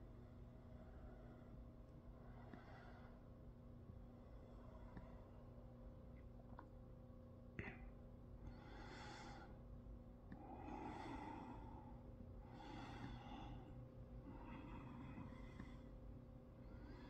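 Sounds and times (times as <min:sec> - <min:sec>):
soft breathing: 0:00.0 - 0:06.0, 0:07.6 - 0:17.0.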